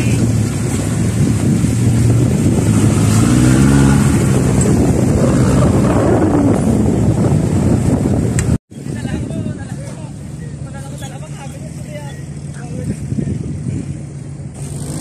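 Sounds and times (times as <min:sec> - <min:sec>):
wind buffeting microphone: 0:00.0 - 0:10.2, 0:12.4 - 0:15.0.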